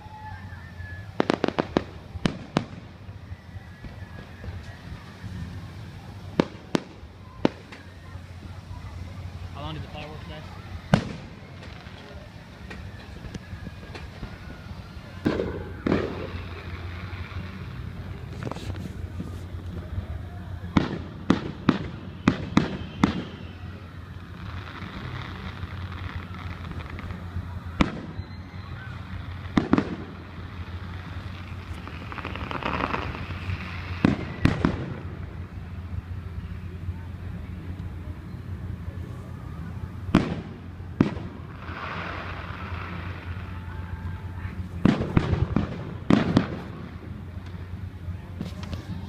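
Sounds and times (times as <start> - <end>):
fireworks bursting in bangs: 0.7 - 36.6, 39.6 - 49.0.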